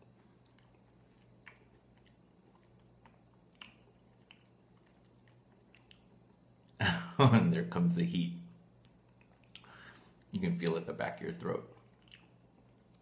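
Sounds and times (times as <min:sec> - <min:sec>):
person chewing: 0:00.0 - 0:06.8, 0:08.4 - 0:10.8, 0:11.4 - 0:13.0.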